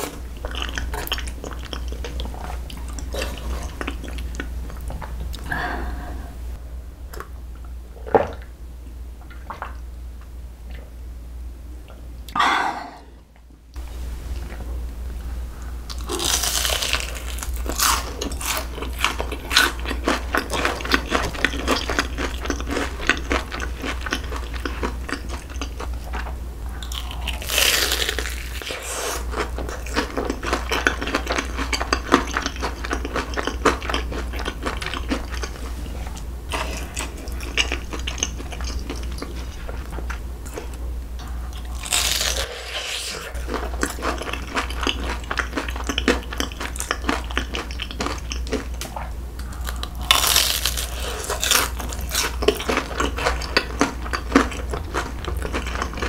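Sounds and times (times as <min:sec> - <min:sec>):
crunching and chewing fried food: 0:00.0 - 0:05.7, 0:15.9 - 0:56.0.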